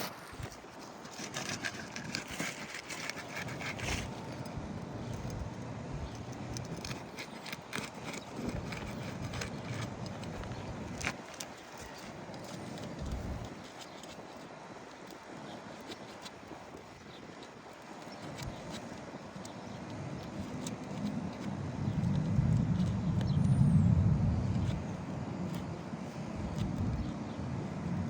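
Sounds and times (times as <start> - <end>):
scraping on shingle roof: 0.0 - 23.2.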